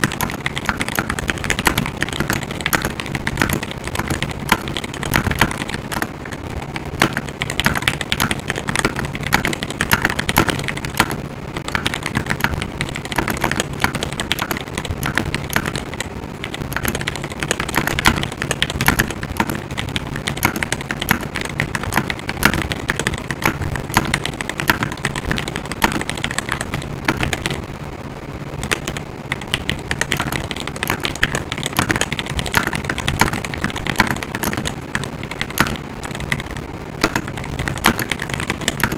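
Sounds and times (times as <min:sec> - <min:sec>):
mechanical keyboard typing: 0:00.0 - 0:27.8, 0:28.5 - 0:38.9.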